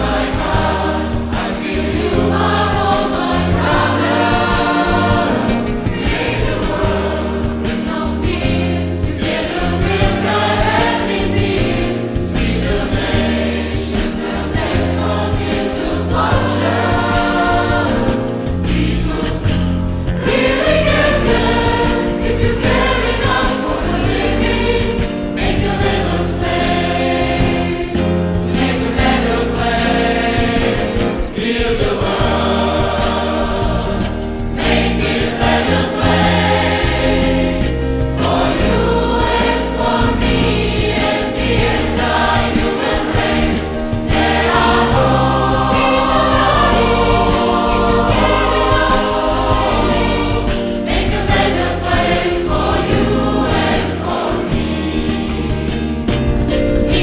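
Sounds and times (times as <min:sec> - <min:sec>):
choir singing music: 0:00.0 - 0:57.0.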